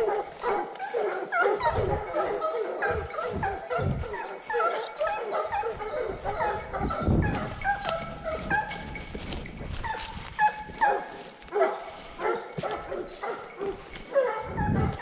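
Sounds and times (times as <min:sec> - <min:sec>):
hounds baying: 0:00.0 - 0:15.0.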